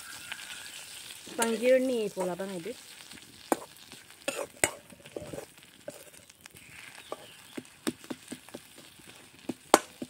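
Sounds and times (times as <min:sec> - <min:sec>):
light sizzle: 0:00.0 - 0:10.0
metal spatula scraping wok: 0:00.0 - 0:10.0.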